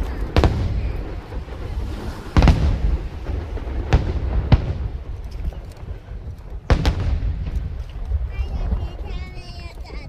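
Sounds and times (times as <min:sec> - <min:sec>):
fireworks booms and bangs: 0:00.0 - 0:10.0
low rolling rumble of bursts: 0:00.0 - 0:10.0.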